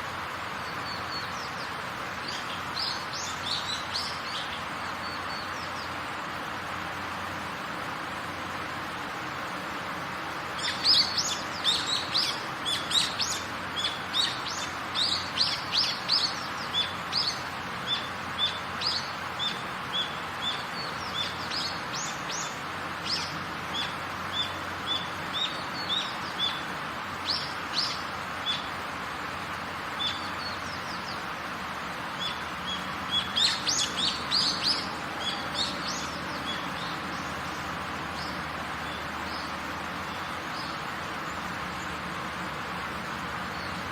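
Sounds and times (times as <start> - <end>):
birds chirping: 0.0 - 6.2, 10.4 - 43.9
heavy rain: 0.0 - 43.9.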